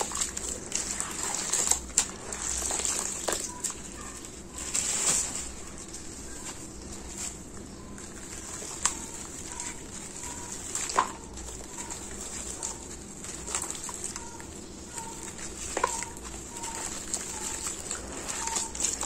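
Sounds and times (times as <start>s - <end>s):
gritty crumbling and patter: 0.0s - 19.0s.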